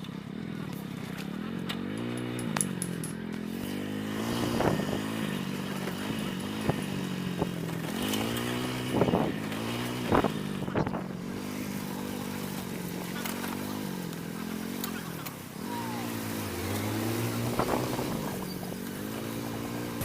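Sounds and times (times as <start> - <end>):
scooter engine running: 0.0 - 20.0.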